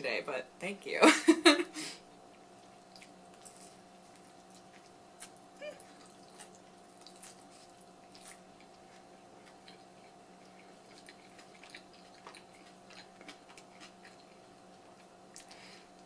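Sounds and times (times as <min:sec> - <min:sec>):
steady low hum: 0:00.0 - 0:16.0
person chewing pizza: 0:02.2 - 0:16.0.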